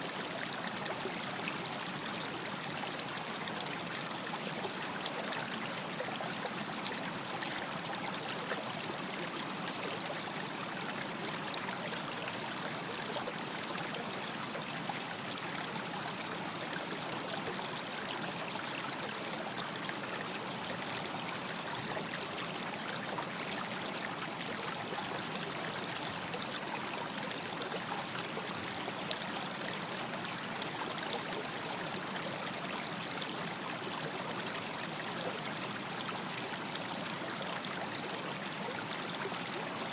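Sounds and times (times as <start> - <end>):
stream water running over stones: 0.0 - 39.9.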